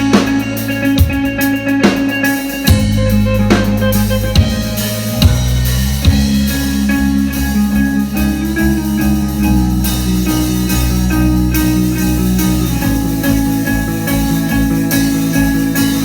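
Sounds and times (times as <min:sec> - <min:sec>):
rock band playing live: 0:00.0 - 0:16.0.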